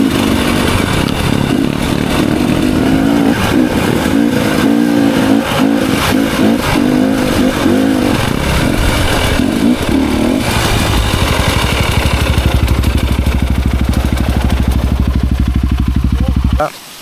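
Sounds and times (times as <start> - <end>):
motorcycle engine revving and idling: 0.0 - 16.8.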